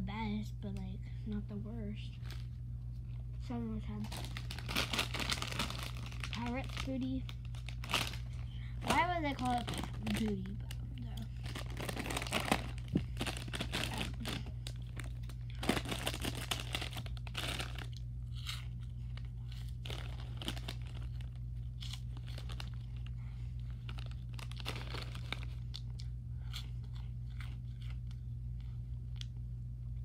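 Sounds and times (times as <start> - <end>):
snack bag crinkling: 3.9 - 29.4
crunching while chewing: 4.1 - 8.6, 9.3 - 30.0.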